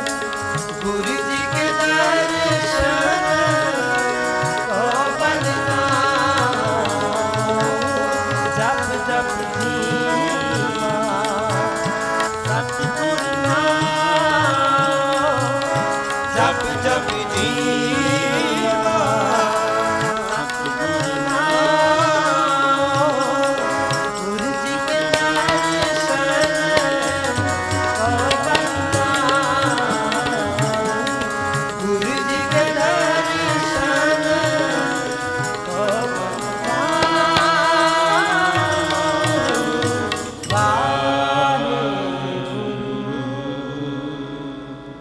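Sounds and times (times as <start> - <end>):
rapid tabla strokes: 0.0 - 40.8
person singing: 0.0 - 45.0
sustained harmonium chords: 0.0 - 45.0.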